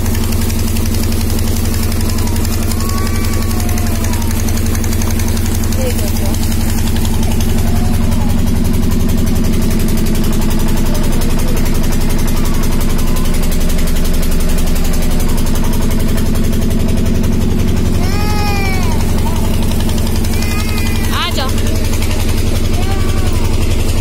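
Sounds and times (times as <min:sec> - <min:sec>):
water gushing from hose: 0:00.0 - 0:24.0
water pump engine chugging: 0:00.0 - 0:24.0.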